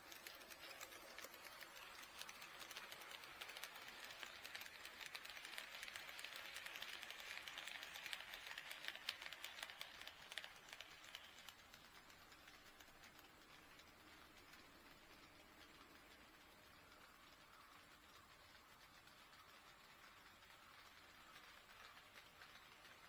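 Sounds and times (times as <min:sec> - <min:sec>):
model train wheels clicking: 0:00.0 - 0:23.0.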